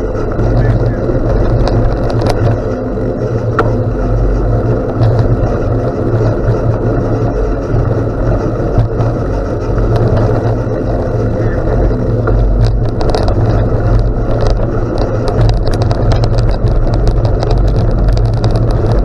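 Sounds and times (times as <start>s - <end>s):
bicycle tyres rolling on gravel: 0.0s - 19.0s
loose stones ticking: 0.0s - 19.0s
wind buffeting microphone: 0.0s - 19.0s.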